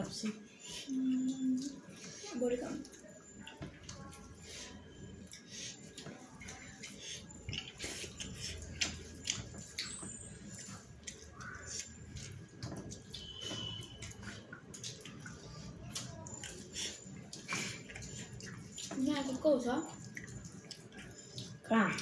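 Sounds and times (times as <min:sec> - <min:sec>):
wet chewing and mouth smacking: 0:00.6 - 0:22.0.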